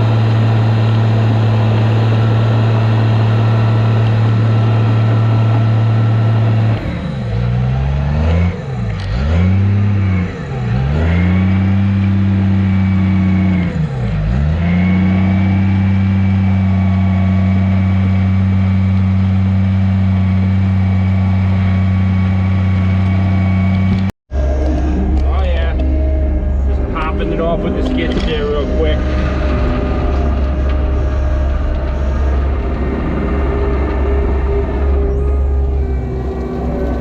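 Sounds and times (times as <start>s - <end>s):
heavy diesel engine running hard: 0.0s - 37.0s.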